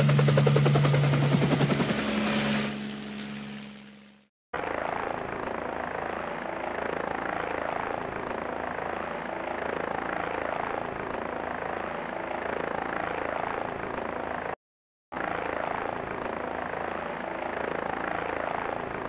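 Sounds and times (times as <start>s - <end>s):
helicopter rotor and engine noise: 0.0s - 19.0s.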